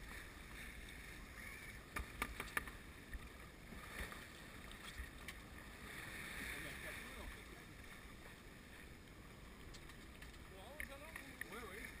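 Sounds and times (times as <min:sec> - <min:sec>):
water splashing along hull: 0:00.0 - 0:12.0.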